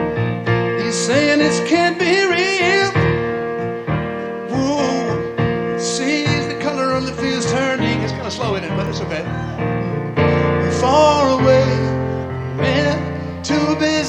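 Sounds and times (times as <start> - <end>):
piano: 0.0 - 14.0.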